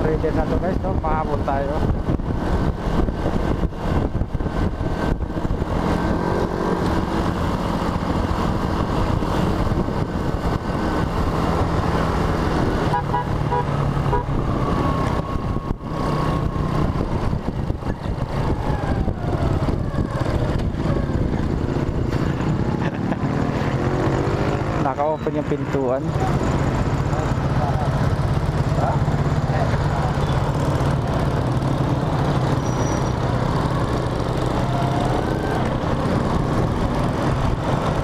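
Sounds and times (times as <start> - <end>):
wind noise on microphone: 0.0 - 24.7, 30.5 - 38.0
motorcycle engine running: 0.0 - 38.0.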